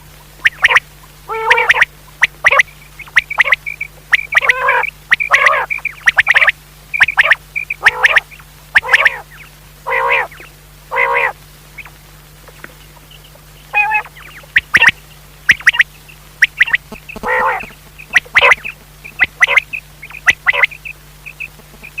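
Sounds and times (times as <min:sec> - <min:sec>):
quail calling: 0:00.4 - 0:22.0.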